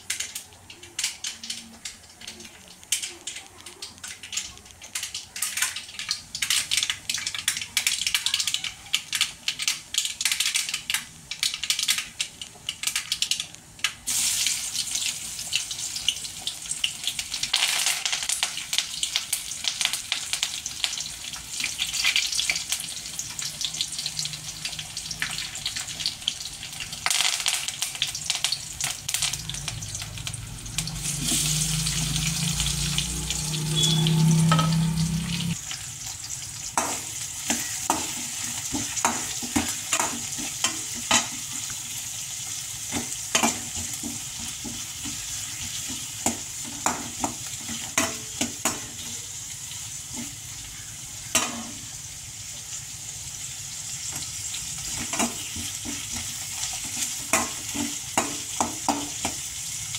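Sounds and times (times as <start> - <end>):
hot oil sizzling: 0.0 - 59.9
spices crackling in oil: 0.0 - 59.9.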